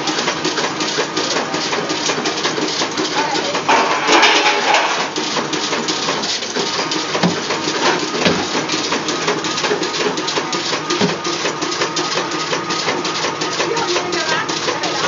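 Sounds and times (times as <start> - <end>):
machine clattering clicks: 0.0 - 15.0.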